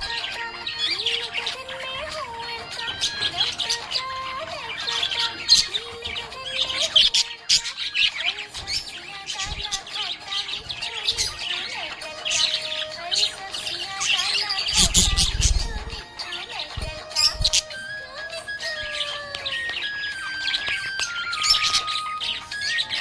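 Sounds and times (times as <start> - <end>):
background music: 0.0 - 23.0
budgerigars chirping: 0.0 - 23.0.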